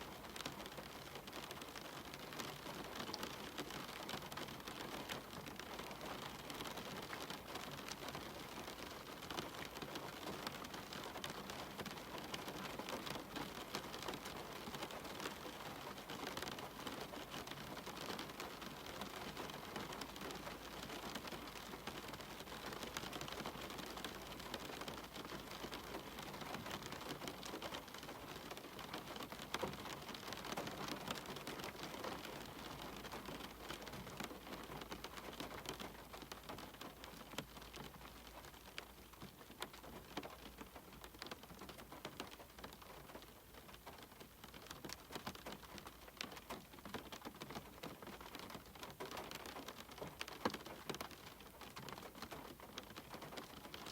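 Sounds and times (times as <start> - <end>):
raindrops ticking close by: 0.0 - 53.9.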